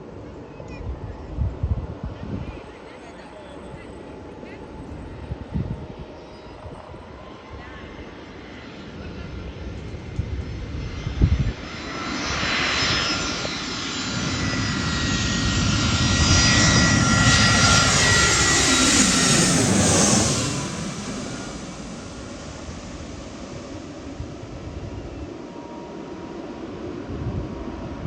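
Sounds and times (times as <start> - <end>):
jet airliner passing overhead: 0.0 - 28.0.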